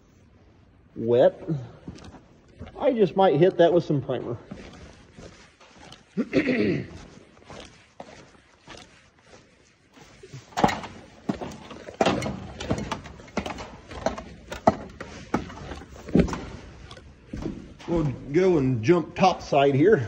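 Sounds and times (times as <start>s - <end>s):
feet clanking on metal ladder: 1.4s - 19.4s.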